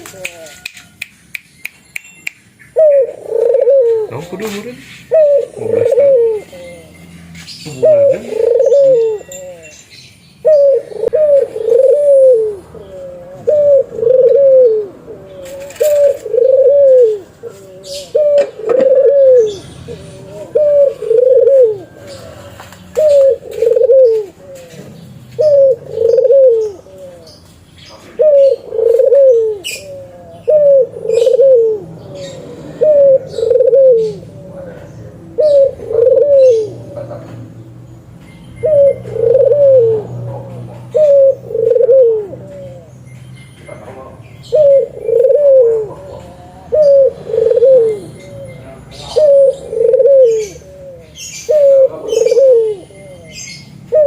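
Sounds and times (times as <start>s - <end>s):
dove cooing: 0.0s - 1.0s, 2.7s - 9.8s, 10.4s - 37.8s, 38.6s - 43.0s, 43.8s - 54.0s.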